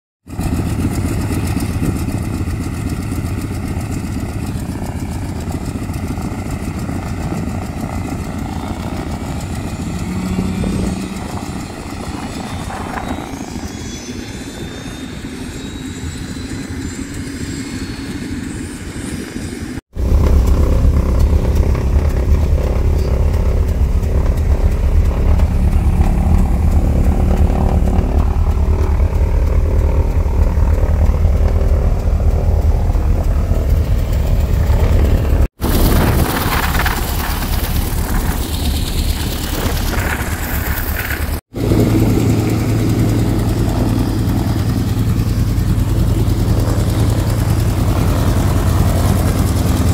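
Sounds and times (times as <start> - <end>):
twin propeller engines running: 0.2 - 49.9.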